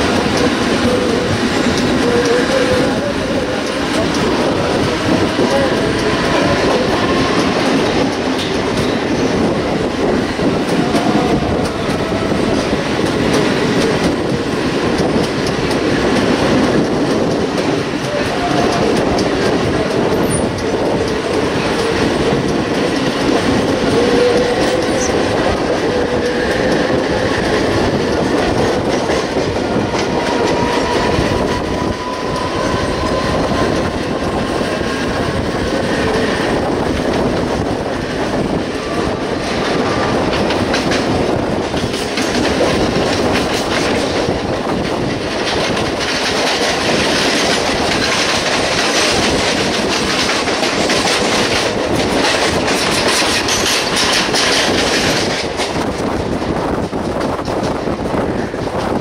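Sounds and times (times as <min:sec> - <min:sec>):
clickety-clack over rail joints: 0:00.0 - 0:59.0
train wheels on rails: 0:00.0 - 0:59.0.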